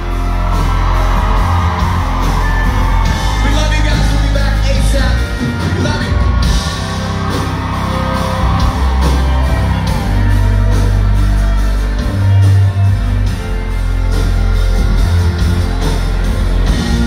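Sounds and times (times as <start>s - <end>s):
deep bass line: 0.0s - 17.0s
steady drum beat: 0.0s - 17.0s.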